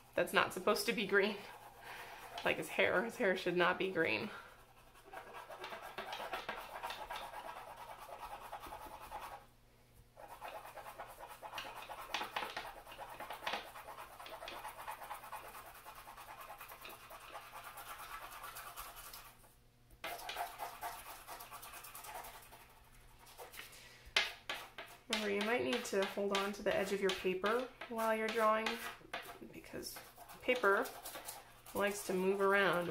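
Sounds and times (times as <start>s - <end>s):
crayon scratching on paper: 0.0s - 3.0s, 4.6s - 9.4s, 10.2s - 19.4s, 20.0s - 23.6s, 24.2s - 32.9s.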